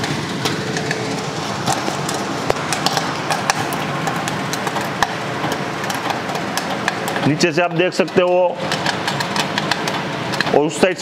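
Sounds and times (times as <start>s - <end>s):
gas burner flame hissing: 0.0s - 11.0s
popcorn kernels popping: 0.0s - 11.0s.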